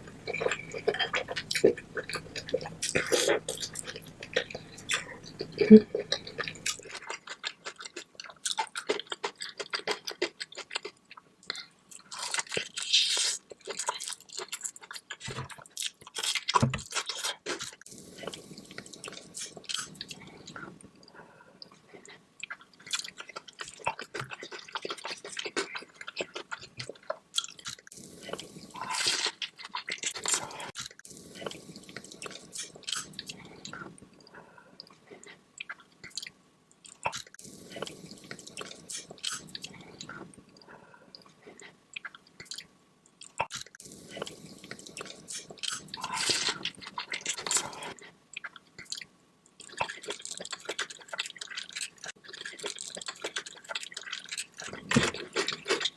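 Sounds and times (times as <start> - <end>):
wet chewing and mouth smacking: 0.1 - 20.7, 21.6 - 55.9.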